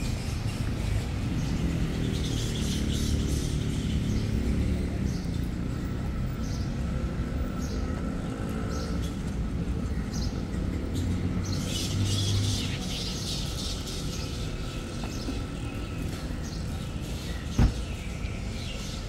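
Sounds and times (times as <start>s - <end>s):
birds chirping: 0.0s - 19.0s
city traffic hum: 0.0s - 19.0s.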